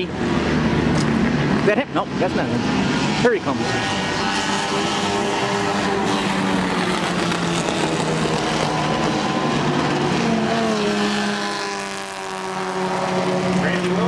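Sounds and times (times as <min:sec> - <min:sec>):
racing cars passing: 0:00.0 - 0:14.0.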